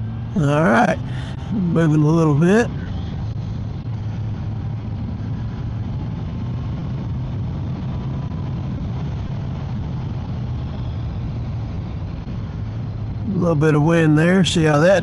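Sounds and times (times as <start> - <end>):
motorcycle engine drone: 0.0 - 15.0
wind rushing over microphone: 0.0 - 15.0.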